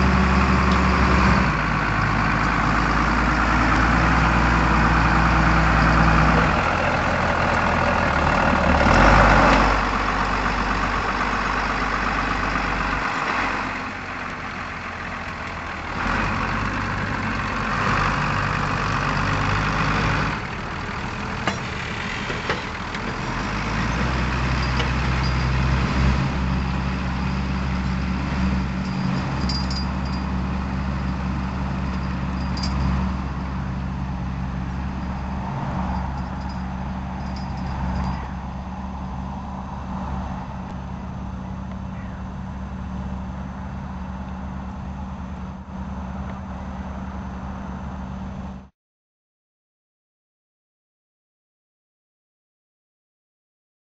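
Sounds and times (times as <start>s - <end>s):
tractor engine running under load: 0.0s - 48.7s.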